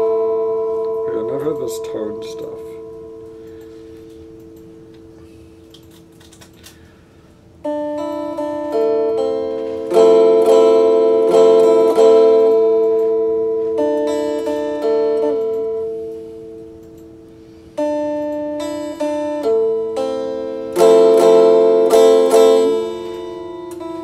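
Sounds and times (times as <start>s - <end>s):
electric guitar chords strummed: 0.0s - 24.0s.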